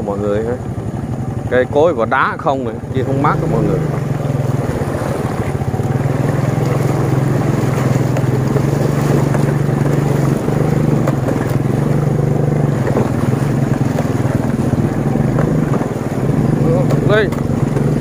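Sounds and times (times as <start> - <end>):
small motorcycle engine running: 0.0 - 18.0.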